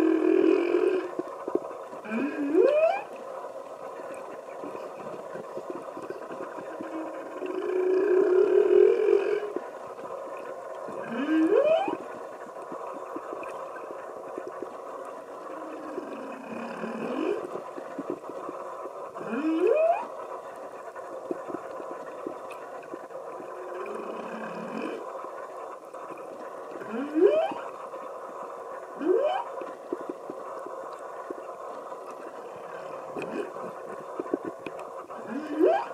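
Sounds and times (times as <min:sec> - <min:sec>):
whale calls underwater: 0:00.0 - 0:27.8, 0:28.4 - 0:35.9
faint steady crackle: 0:00.0 - 0:35.9.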